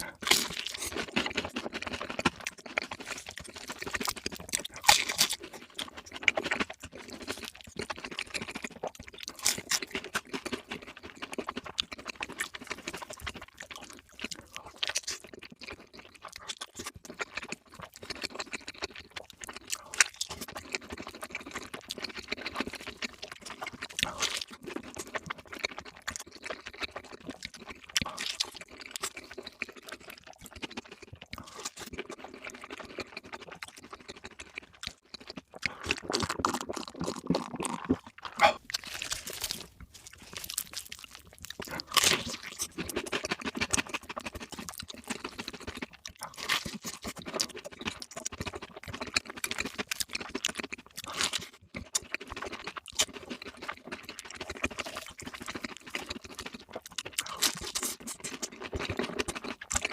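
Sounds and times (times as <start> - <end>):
crunchy bites and wet chewing: 0.0 - 59.9.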